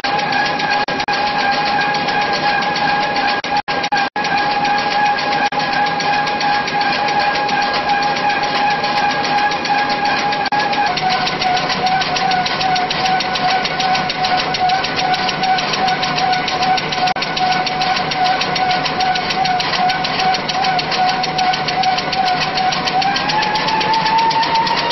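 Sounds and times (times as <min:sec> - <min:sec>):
machine whine and hum: 0:00.0 - 0:24.9
rapid even ticking of rolls: 0:00.0 - 0:24.9.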